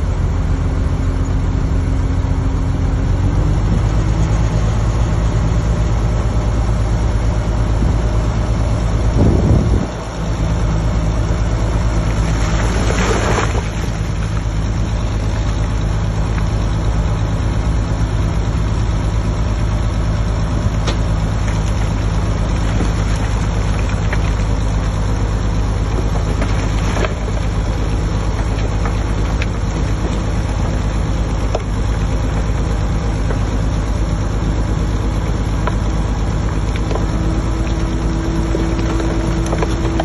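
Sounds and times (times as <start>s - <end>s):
diesel machinery running: 0.0s - 40.0s.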